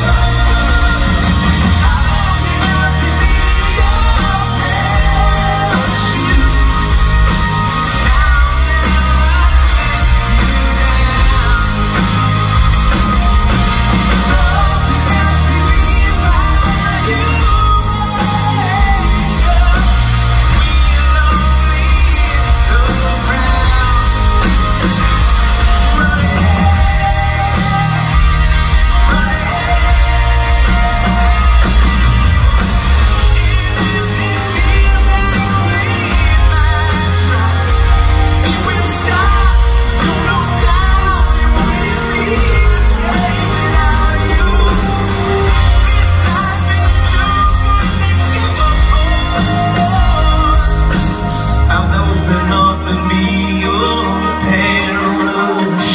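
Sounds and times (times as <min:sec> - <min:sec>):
live rock band playing: 0:00.0 - 0:55.9
man singing lead vocals: 0:00.0 - 0:55.9.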